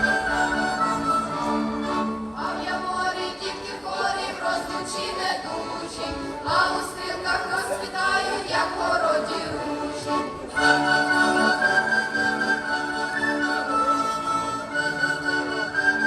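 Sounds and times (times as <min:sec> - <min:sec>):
folk group singing with instruments: 0:00.0 - 0:16.0.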